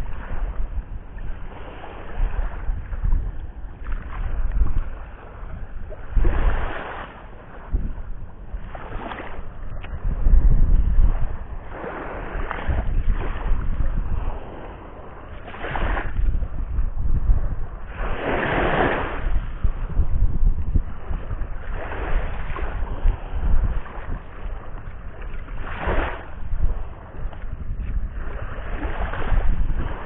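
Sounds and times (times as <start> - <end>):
waves washing onto shore: 0.0 - 30.0
wind buffeting microphone: 0.0 - 30.0.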